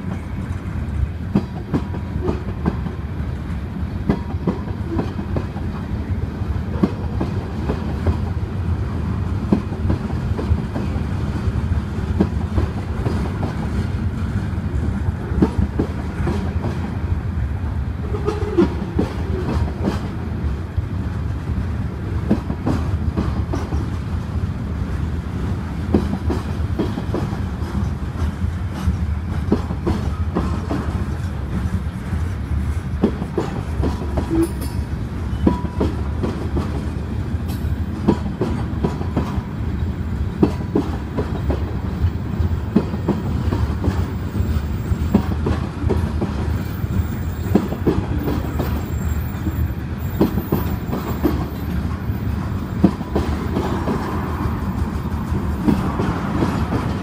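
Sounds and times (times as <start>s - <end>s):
freight train rumbling past: 0.0s - 57.0s
train wheels clacking on rails: 0.0s - 57.0s.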